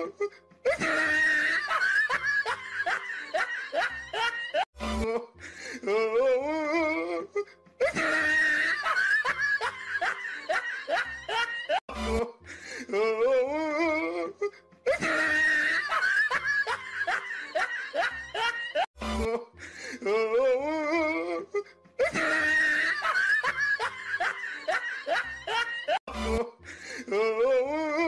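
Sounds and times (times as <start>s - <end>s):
laugh track: 0.0s - 28.0s
music: 0.0s - 28.0s.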